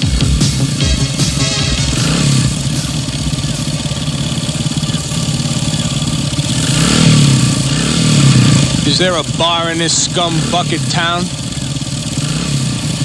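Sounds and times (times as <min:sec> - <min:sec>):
vehicle engine pulsing and revving: 0:00.0 - 0:13.0.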